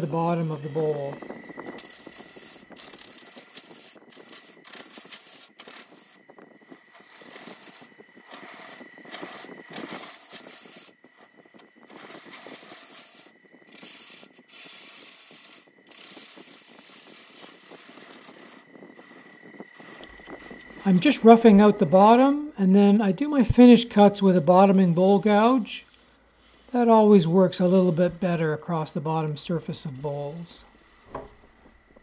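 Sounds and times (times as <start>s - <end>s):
lathe gouge cutting wood: 0.0s - 6.2s, 6.8s - 22.4s, 23.6s - 32.0s.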